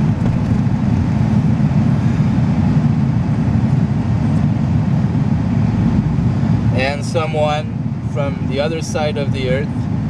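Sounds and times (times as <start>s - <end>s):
vehicle driving rumble: 0.0s - 10.0s.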